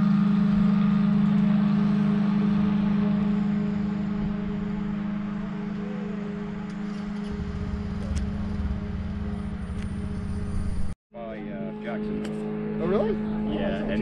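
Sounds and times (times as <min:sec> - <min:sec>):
low rumble: 0:00.0 - 0:14.0
small engine droning: 0:00.0 - 0:14.0.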